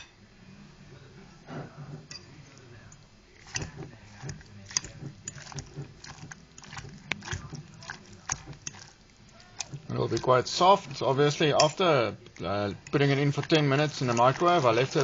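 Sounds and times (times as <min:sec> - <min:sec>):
wet squishing of food: 0:02.4 - 0:15.0.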